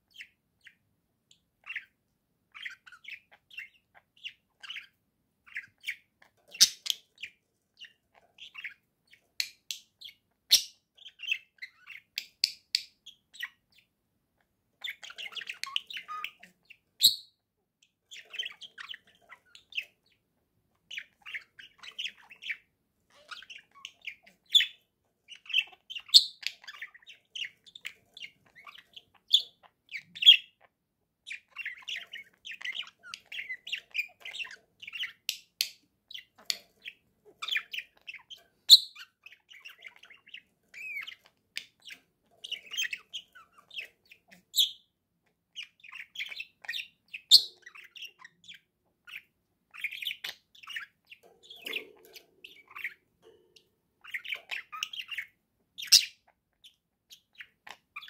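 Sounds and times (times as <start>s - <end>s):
budgerigars chirping and warbling: 0.0s - 58.0s.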